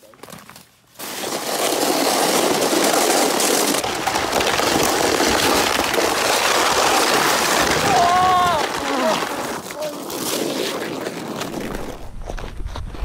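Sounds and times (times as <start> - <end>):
sled scraping over icy snow: 1.0 - 13.0.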